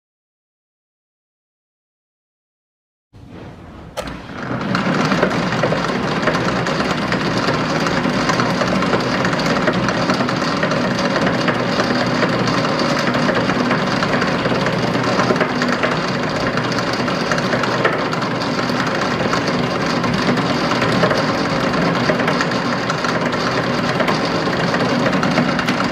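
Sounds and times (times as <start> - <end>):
lathe running with mechanical whir: 3.2 - 25.9
low electric motor hum: 3.2 - 25.9.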